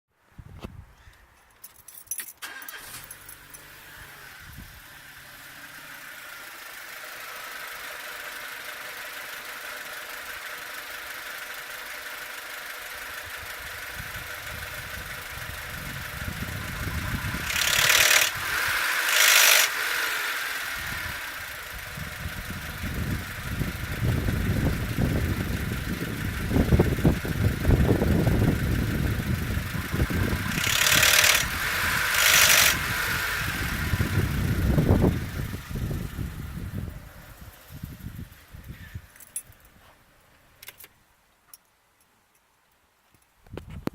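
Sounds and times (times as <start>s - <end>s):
car engine idling rough: 2.5s - 40.6s.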